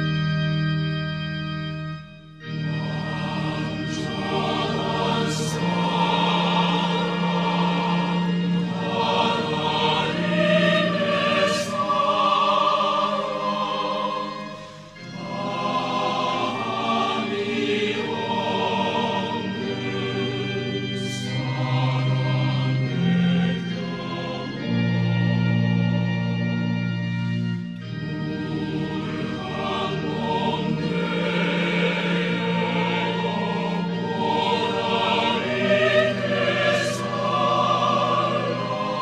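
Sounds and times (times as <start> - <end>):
choir singing long chords: 0.0 - 39.0.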